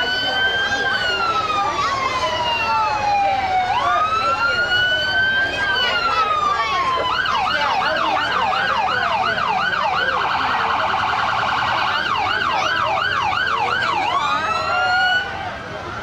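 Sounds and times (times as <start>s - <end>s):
police siren yelp and warble: 0.0s - 16.0s.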